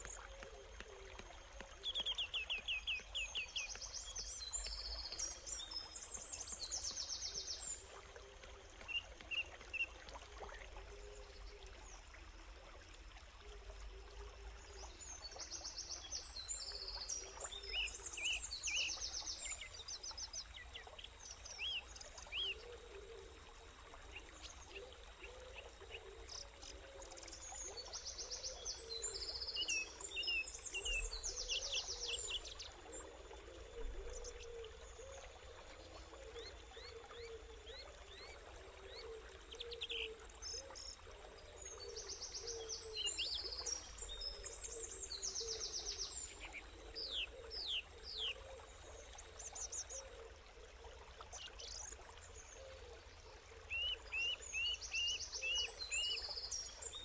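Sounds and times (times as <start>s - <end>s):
creek water gurgling: 0.0s - 57.0s.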